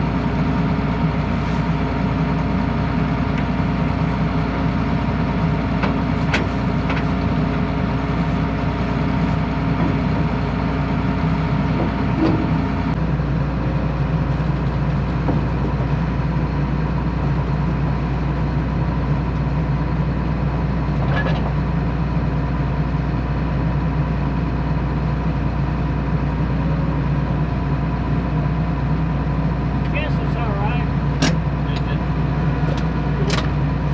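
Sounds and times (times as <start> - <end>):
combine diesel engine running: 0.0 - 33.9.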